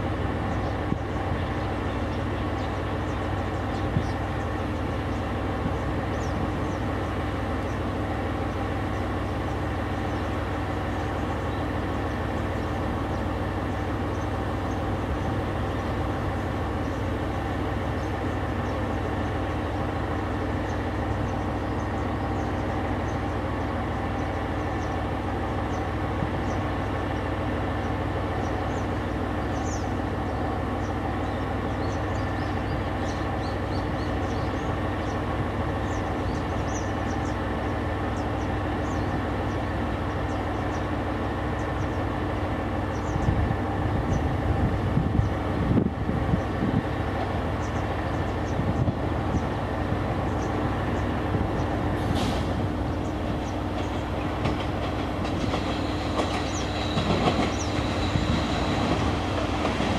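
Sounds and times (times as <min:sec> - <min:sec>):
diesel railcar engine hum: 0:00.0 - 0:59.9
low rumble of approaching railcar: 0:00.0 - 0:59.9.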